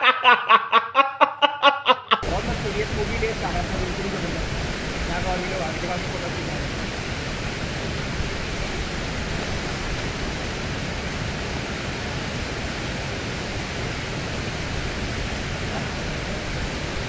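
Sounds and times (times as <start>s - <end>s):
waterfall rushing: 2.2s - 17.0s.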